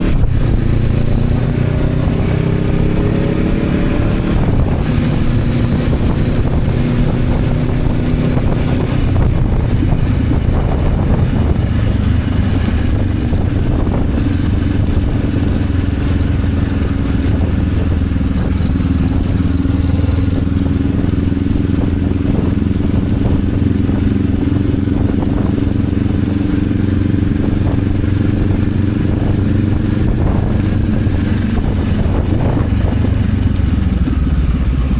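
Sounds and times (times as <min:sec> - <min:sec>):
motorcycle engine running: 0:00.0 - 0:34.9
wind noise: 0:00.0 - 0:34.9.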